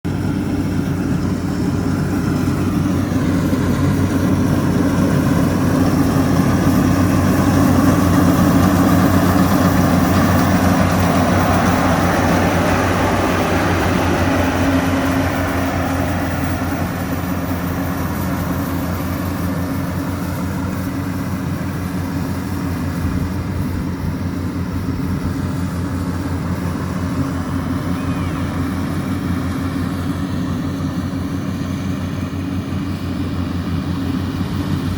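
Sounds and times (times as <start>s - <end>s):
combine harvester engine running: 0.0s - 34.9s
mechanical rush: 0.1s - 34.9s.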